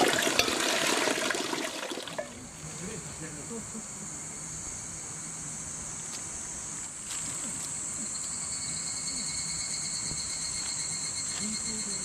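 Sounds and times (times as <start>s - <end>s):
insects chirring: 0.0s - 12.0s
low steady buzz: 2.0s - 12.0s.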